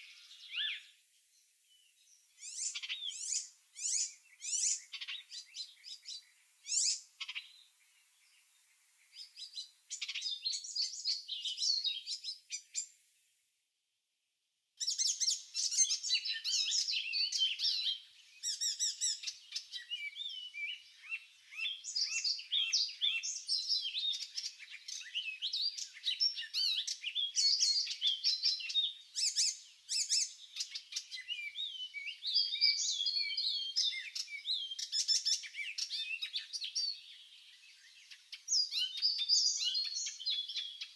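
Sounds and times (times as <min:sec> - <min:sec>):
songbirds singing and chirping: 0:00.0 - 0:13.4, 0:14.6 - 0:40.9.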